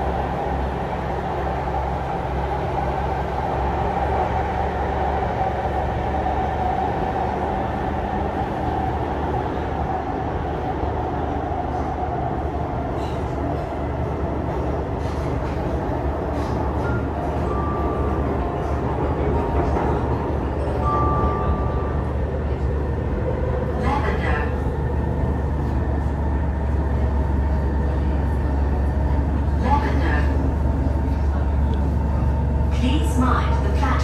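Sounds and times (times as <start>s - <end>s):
train rumbling inside carriage: 0.0s - 34.0s.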